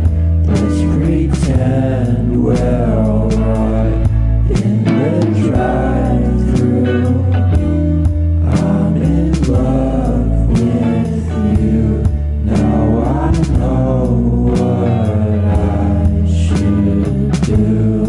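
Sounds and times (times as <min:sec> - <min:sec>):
song with vocals and band: 0:00.0 - 0:18.0.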